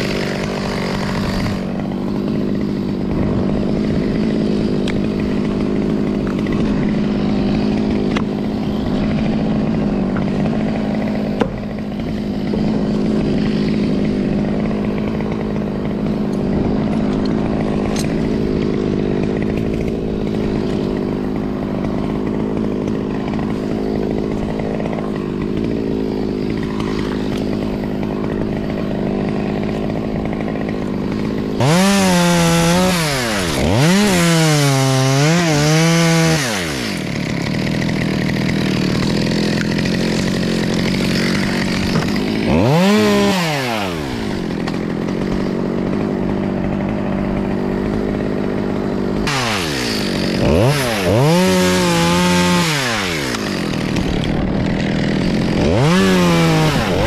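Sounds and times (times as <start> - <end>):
chainsaw revving and cutting: 0.0 - 57.0.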